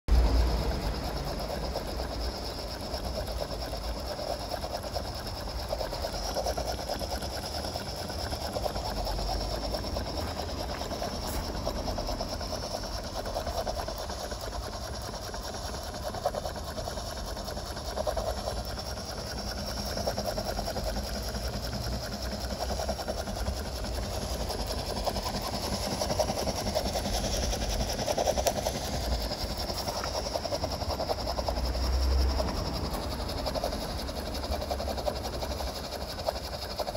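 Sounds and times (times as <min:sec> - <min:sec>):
clatter of locomotive motion: 0:00.1 - 0:36.9
steady hiss of steam: 0:00.1 - 0:36.9
steam locomotive chuffing: 0:00.1 - 0:36.9.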